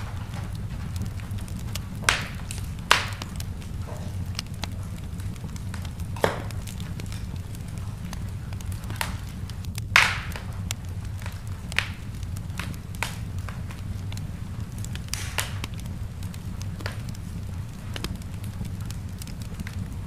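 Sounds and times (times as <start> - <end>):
low fire rumble: 0.0 - 20.0
wood fire crackling and popping: 0.0 - 20.0.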